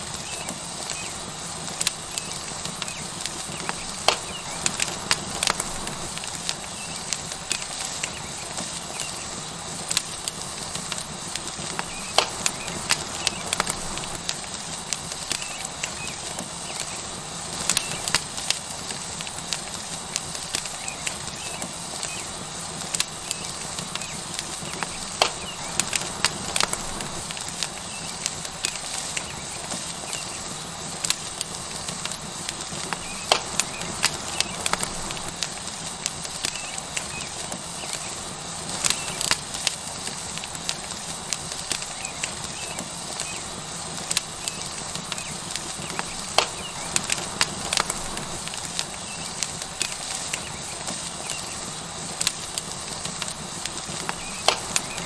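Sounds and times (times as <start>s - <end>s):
steak sizzling on hot rock: 0.0s - 55.0s
fat and wood popping: 0.1s - 55.0s.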